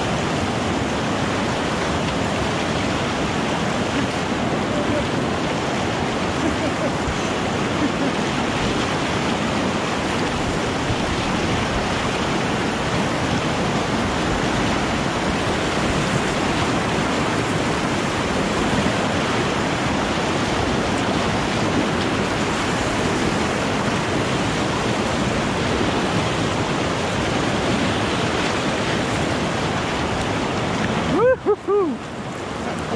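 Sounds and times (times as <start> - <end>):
waves splashing against boat: 0.0 - 32.9
whitewater rapids rushing: 0.0 - 32.9.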